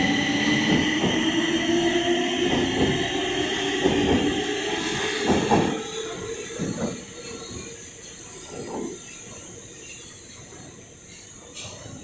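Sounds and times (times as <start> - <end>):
metro train rumbling and whining: 0.0 - 12.0.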